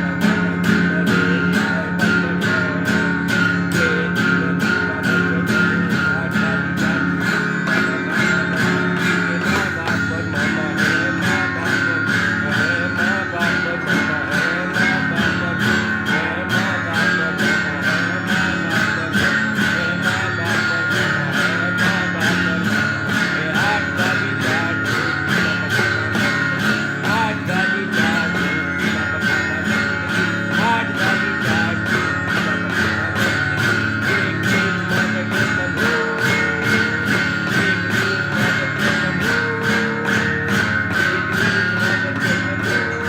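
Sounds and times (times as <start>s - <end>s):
strummed guitar over a beat: 0.0s - 43.0s.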